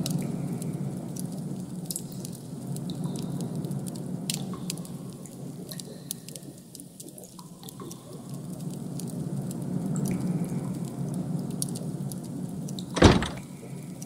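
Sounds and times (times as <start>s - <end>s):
small clicks and crackles: 0.0s - 14.0s.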